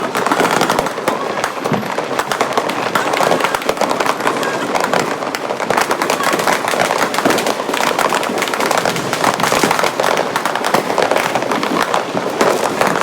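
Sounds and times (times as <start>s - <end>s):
firecrackers crackling and banging: 0.0s - 13.0s.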